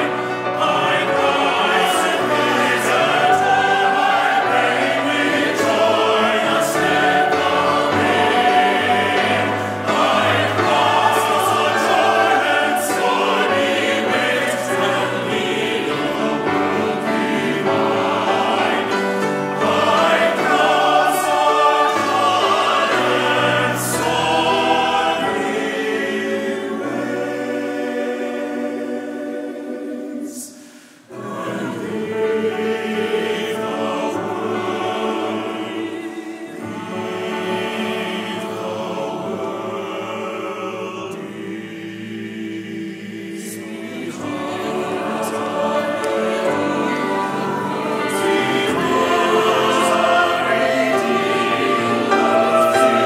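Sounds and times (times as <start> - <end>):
choir singing a hymn: 0.0 - 53.0
grand piano: 0.0 - 53.0.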